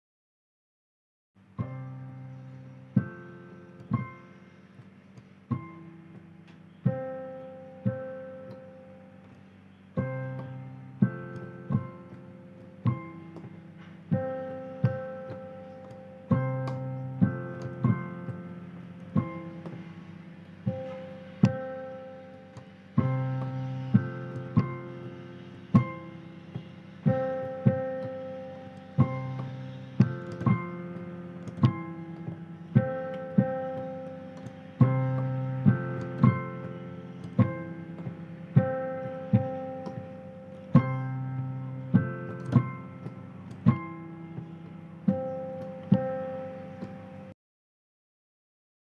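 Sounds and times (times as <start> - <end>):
solo piano melody: 1.4 - 47.4.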